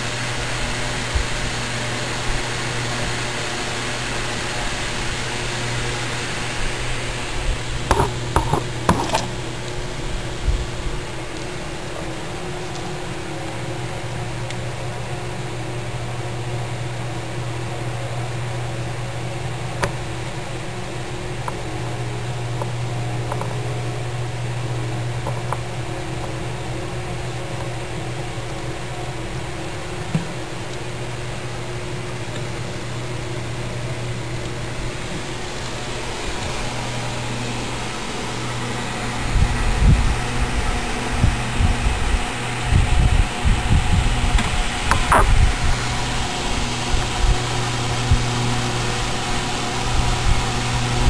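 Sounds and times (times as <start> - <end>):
mechanical hum with hiss: 0.0 - 51.0.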